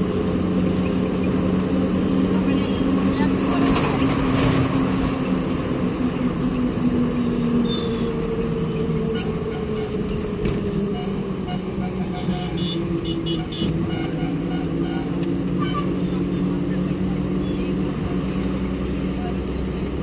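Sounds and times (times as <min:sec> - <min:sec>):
bus engine running: 0:00.0 - 0:20.0
road noise: 0:00.0 - 0:20.0.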